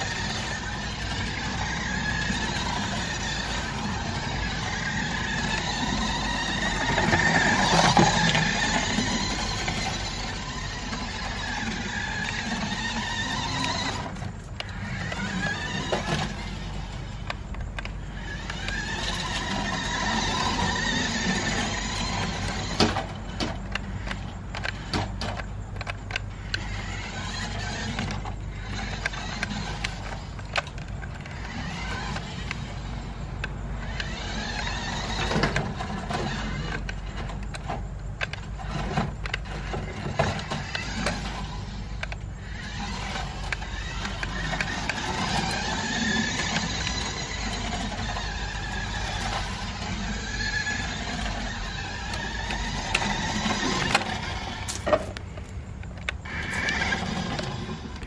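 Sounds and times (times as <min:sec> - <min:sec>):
tires running over wooden boards: 0:00.0 - 0:58.0
toy truck electric motor whining: 0:00.0 - 0:58.0.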